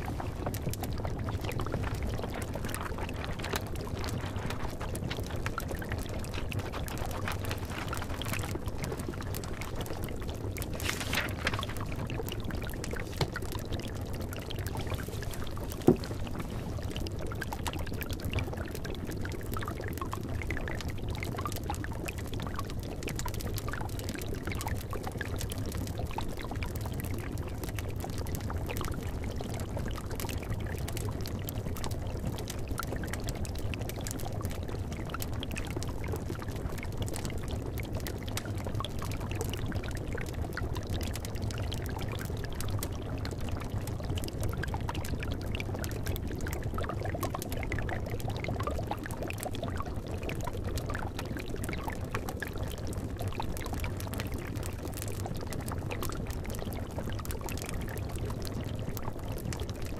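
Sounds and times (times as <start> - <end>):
wood fire crackling: 0.0 - 59.8
liquid bubbling in a cauldron: 0.0 - 59.9.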